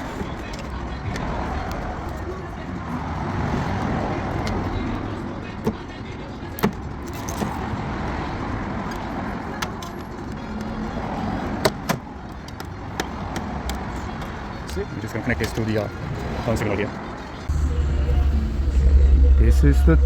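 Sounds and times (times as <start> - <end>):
traffic-like rumble: 0.0 - 20.0.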